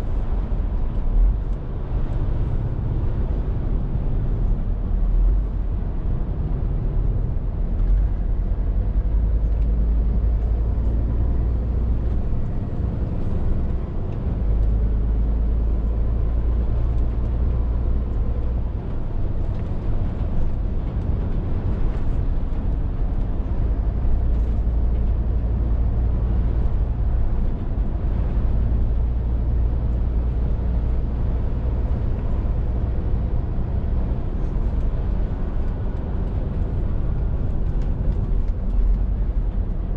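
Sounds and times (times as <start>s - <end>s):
lorry diesel engine drone: 0.0s - 39.9s
road noise: 0.0s - 39.9s.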